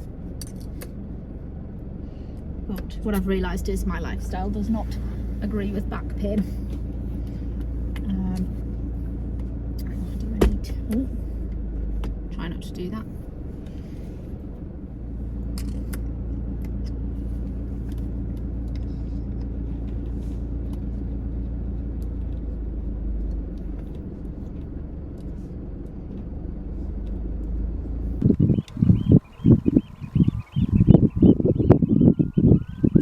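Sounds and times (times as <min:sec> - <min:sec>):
car rumbling: 0:00.0 - 0:33.0.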